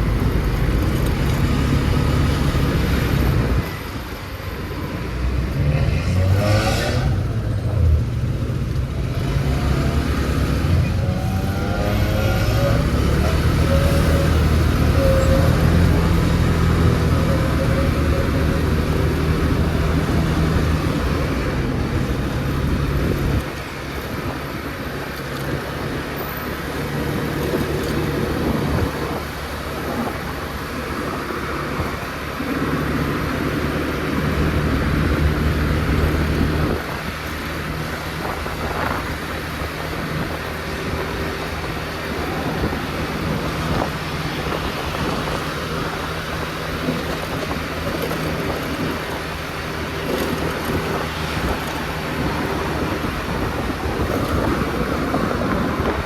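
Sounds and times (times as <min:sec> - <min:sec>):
motor scooter engine hum: 0:00.0 - 0:56.0
road and wind noise: 0:00.0 - 0:56.0.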